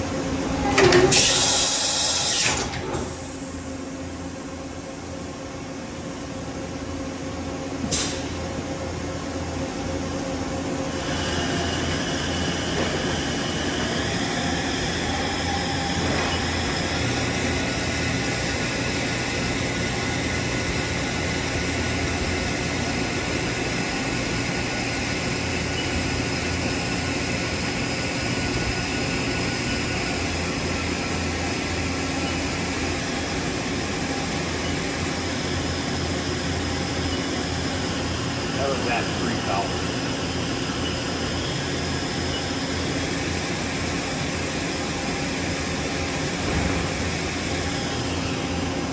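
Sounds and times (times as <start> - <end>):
machine hum with high whine: 0.0 - 48.9.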